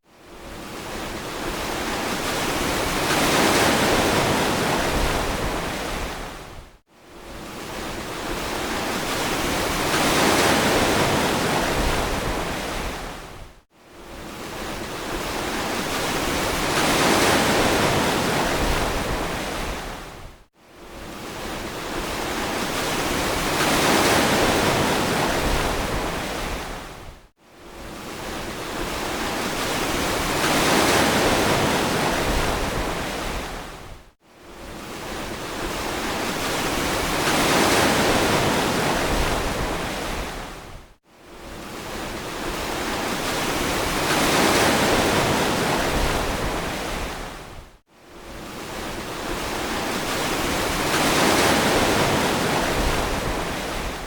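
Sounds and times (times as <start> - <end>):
ocean waves breaking: 0.4 - 6.4, 7.4 - 13.3, 14.2 - 20.1, 21.1 - 27.0, 27.8 - 33.9, 34.8 - 40.8, 41.5 - 47.6, 48.4 - 54.0.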